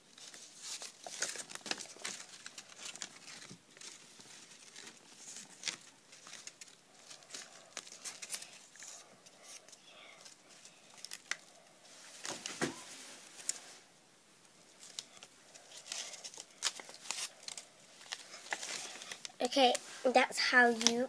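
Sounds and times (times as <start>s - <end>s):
paper rustling and crinkling: 0.0s - 13.9s, 14.7s - 21.0s.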